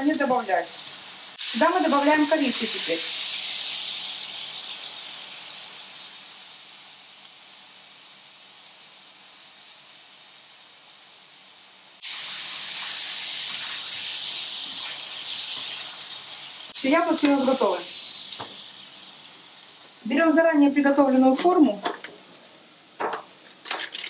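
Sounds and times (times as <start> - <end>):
apple frying in butter sizzling: 0.0 - 24.0.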